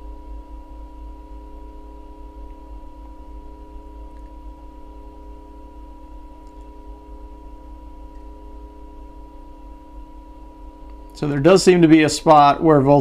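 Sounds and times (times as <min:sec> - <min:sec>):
electronic hum with high whine: 0:00.0 - 0:13.0.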